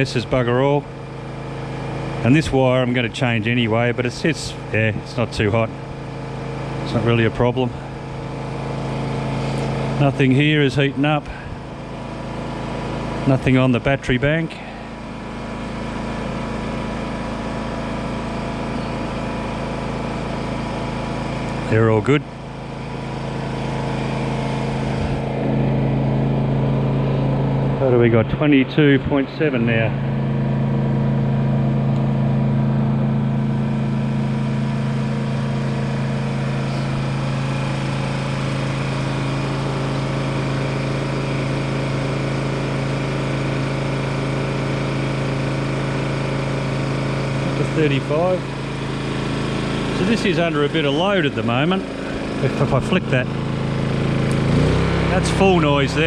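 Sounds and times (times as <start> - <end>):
portable generator running: 0.0 - 56.0.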